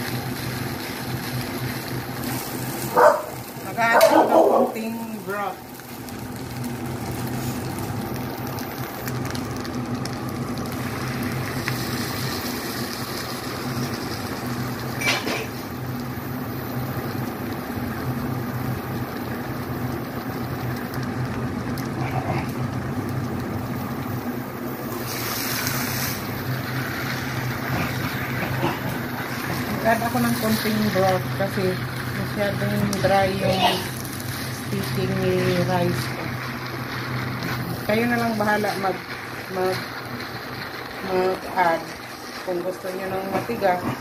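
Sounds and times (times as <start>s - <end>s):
rice frying in a wok: 0.0s - 44.0s.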